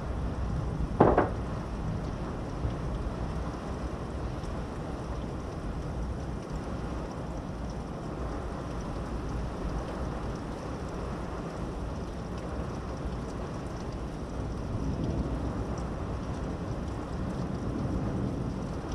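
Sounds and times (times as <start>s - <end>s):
rain: 0.0s - 18.9s
wind: 0.0s - 18.9s.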